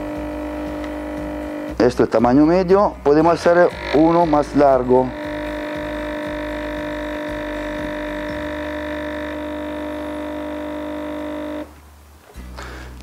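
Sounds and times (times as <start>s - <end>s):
coffee machine pump buzzing: 0.0s - 11.8s.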